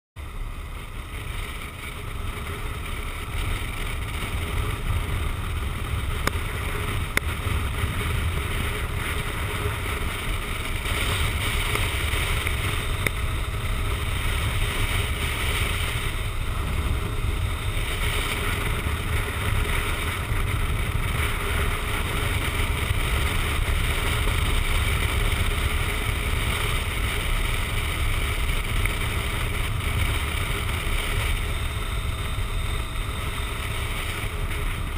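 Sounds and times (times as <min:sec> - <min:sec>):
motorcycle engine: 0:00.2 - 0:34.9
wind rushing over microphone: 0:00.2 - 0:34.9.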